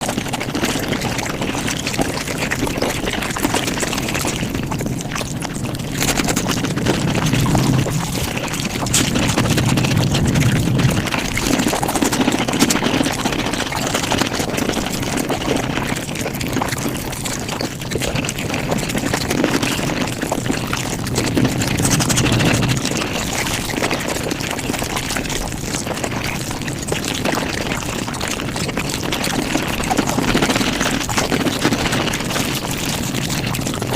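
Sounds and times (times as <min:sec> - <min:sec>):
sped-up chewing and mouth noises: 0:00.0 - 0:33.9.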